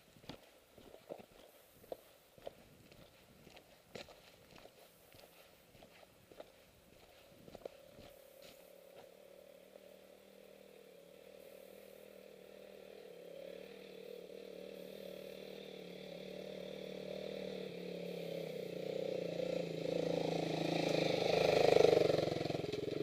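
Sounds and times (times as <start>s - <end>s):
dirt bike engine approaching: 0.0s - 23.0s.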